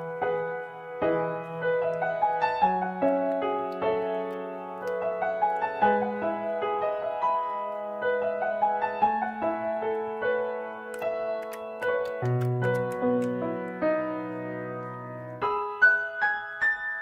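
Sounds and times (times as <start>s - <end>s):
gentle keyboard melody: 0.0s - 17.0s.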